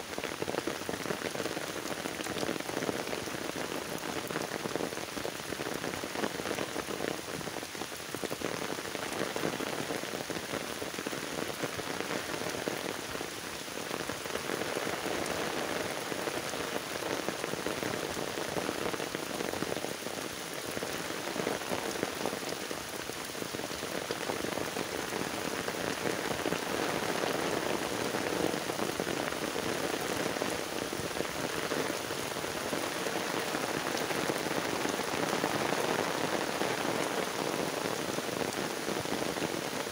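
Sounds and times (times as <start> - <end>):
heavy rain on floodwater: 0.0 - 39.9.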